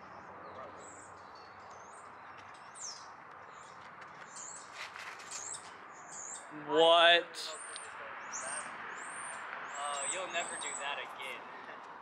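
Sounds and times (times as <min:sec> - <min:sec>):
birds chirping: 0:00.0 - 0:11.8
outdoor background rush: 0:00.0 - 0:12.0.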